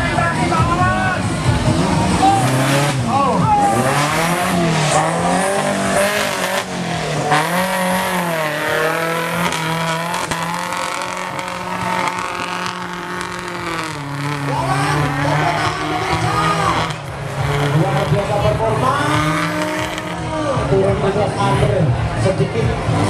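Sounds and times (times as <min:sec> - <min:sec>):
jeep engine revving: 0:00.0 - 0:23.0.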